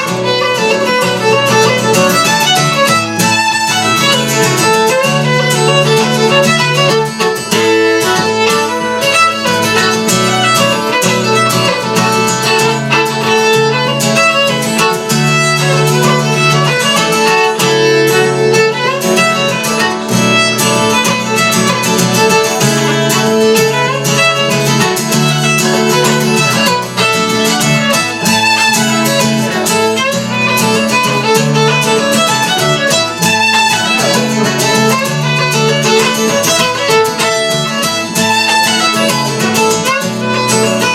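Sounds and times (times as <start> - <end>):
fiddle playing dance tune: 0.0 - 40.9
guitar accompaniment: 0.0 - 40.9.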